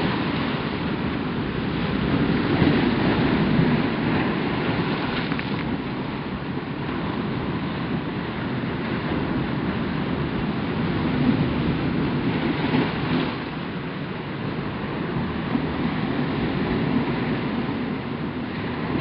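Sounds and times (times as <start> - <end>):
ocean surf breaking on rocks: 0.0 - 19.0.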